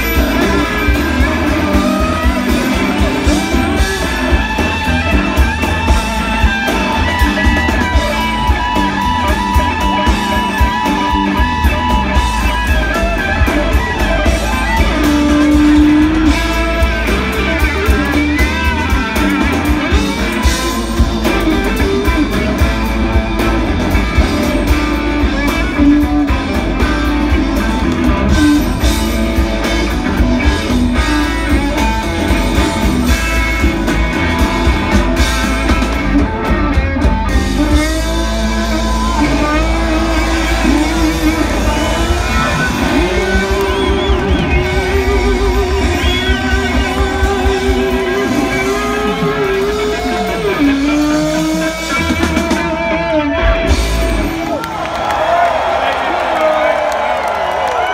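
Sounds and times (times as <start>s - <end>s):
bass guitar: 0.0s - 57.9s
drums: 0.0s - 57.9s
electric guitar lead: 0.0s - 57.9s.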